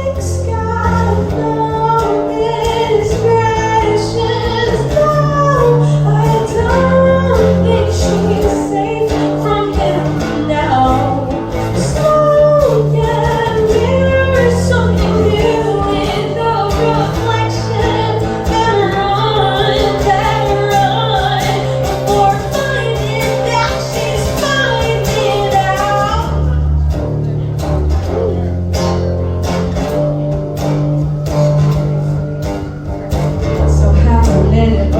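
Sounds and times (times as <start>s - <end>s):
live song with lead vocal: 0.0s - 34.9s.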